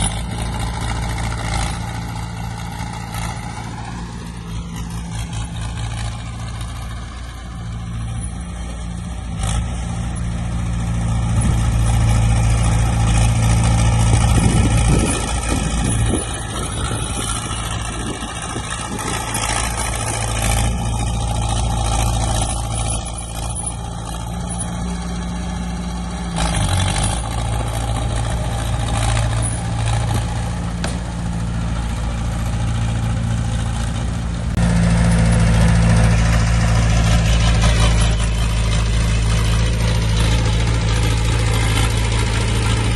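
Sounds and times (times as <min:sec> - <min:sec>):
heavy diesel engines running: 0:00.0 - 0:42.9.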